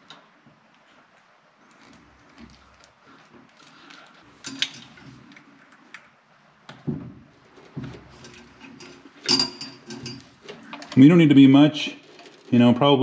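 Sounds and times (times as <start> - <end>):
small clicks and rustling: 0.0 - 11.2, 12.0 - 13.0.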